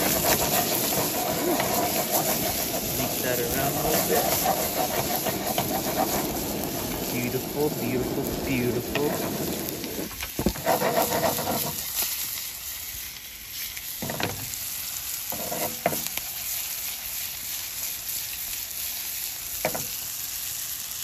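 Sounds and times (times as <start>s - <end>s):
steak sizzling in a skillet: 0.0s - 21.0s.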